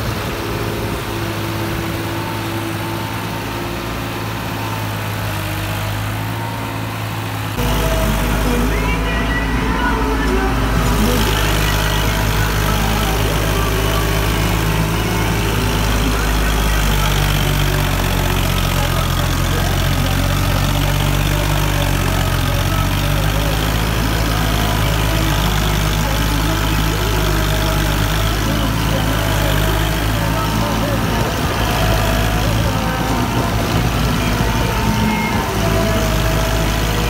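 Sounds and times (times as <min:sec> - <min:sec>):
diesel tractor engine running: 0:00.0 - 0:37.0.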